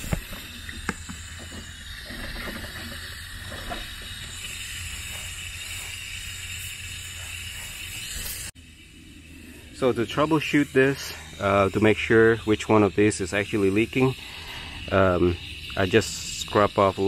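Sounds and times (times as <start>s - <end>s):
water hissing through sprinkler valve: 0.0s - 17.0s.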